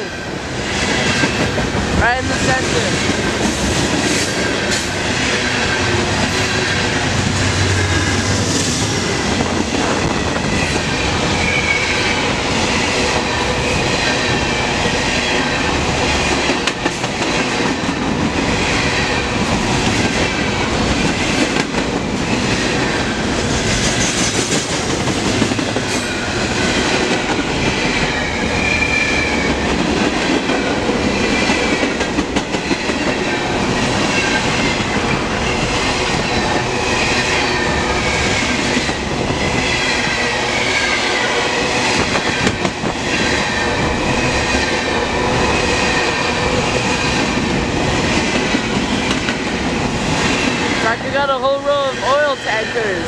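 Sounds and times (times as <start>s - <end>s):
train wheels clicking over rail joints: 3.0s - 41.2s, 41.8s - 50.7s.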